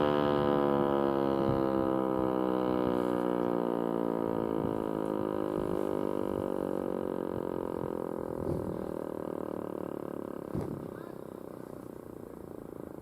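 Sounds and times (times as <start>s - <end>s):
mechanical siren winding down: 0.0s - 10.5s.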